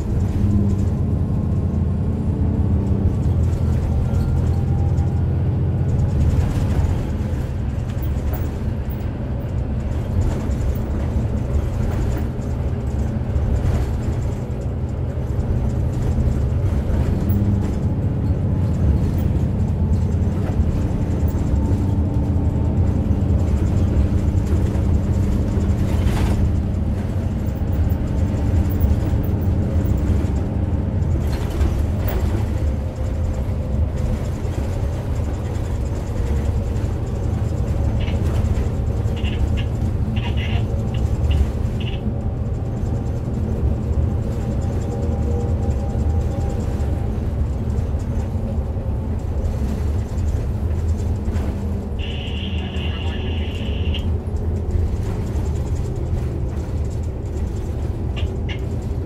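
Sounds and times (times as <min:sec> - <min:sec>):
bus diesel engine running: 0:00.0 - 0:59.0
tyre and road noise: 0:00.0 - 0:59.0.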